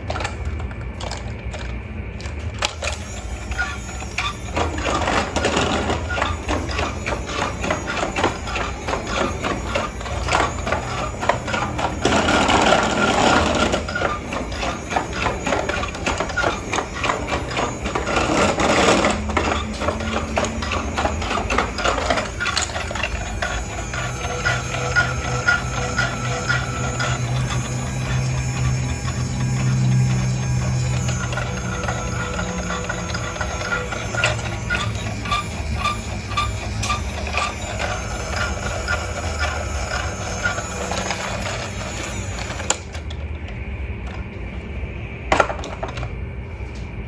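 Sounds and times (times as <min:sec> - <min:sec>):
toy motor and gears clattering: 0:00.0 - 0:44.6.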